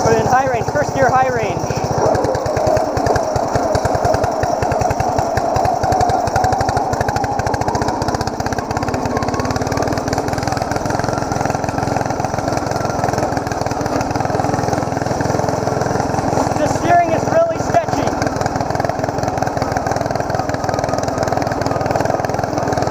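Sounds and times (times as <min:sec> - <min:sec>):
lawn tractor engine running: 0:00.0 - 0:22.9.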